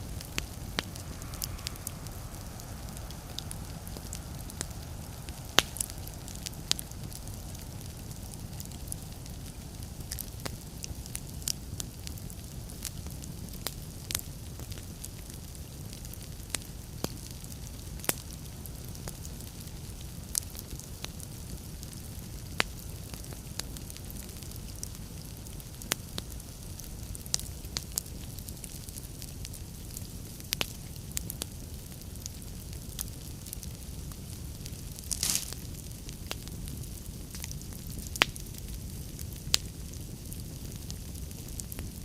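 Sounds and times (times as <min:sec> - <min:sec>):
fire crackles and pops: 0:00.0 - 0:42.0
wood fire rumble and hiss: 0:00.0 - 0:42.0.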